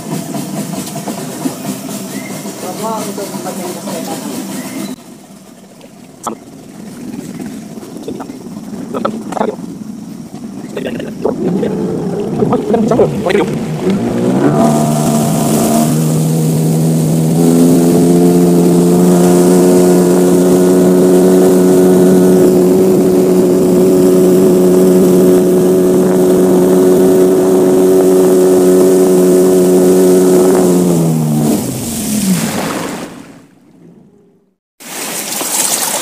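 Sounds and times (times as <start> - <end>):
outboard motor running: 0.0 - 34.6.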